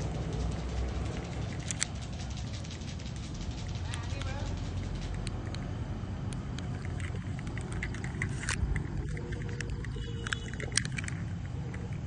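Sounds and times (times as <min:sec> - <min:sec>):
low outdoor rumble: 0:00.0 - 0:12.0
sharp clicks: 0:00.0 - 0:12.0.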